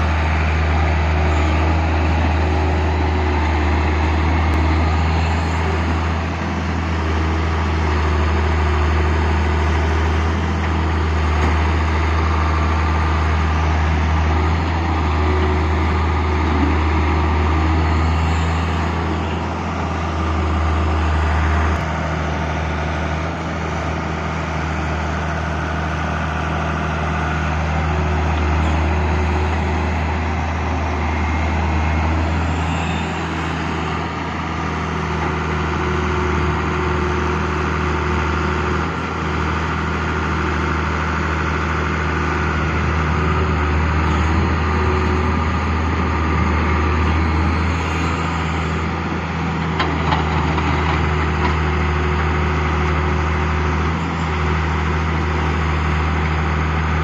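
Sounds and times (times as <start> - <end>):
deep diesel engine hum: 0.0 - 57.0.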